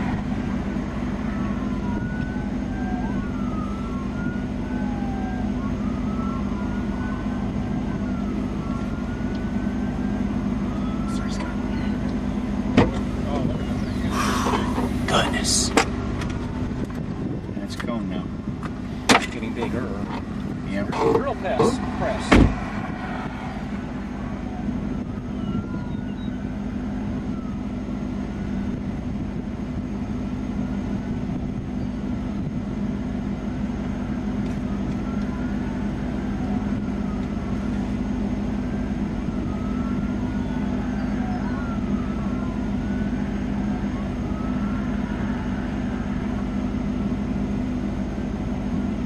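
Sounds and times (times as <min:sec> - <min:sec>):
distant sirens wailing: 0:00.0 - 0:49.0
idling vehicle engine hum: 0:00.0 - 0:49.0.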